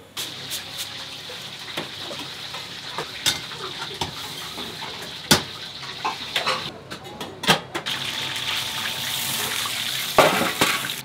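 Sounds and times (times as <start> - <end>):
food sizzling in a pan: 0.2 - 6.7, 7.9 - 11.0.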